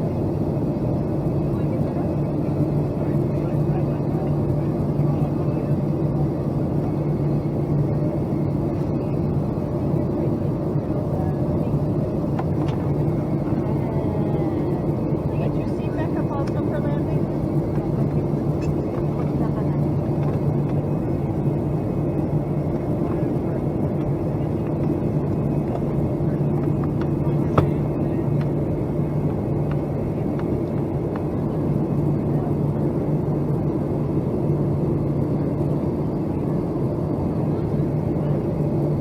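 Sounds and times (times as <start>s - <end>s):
airliner cabin drone: 0.0s - 39.0s.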